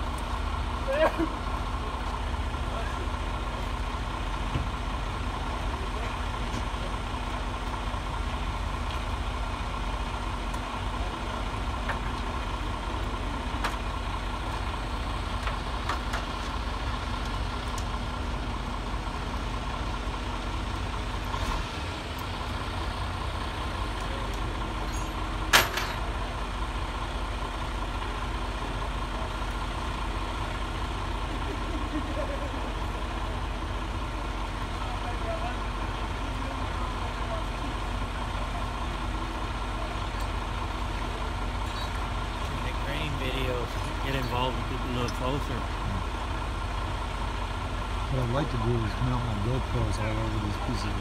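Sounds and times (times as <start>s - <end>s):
heavy vehicle engine idling: 0.0s - 51.0s.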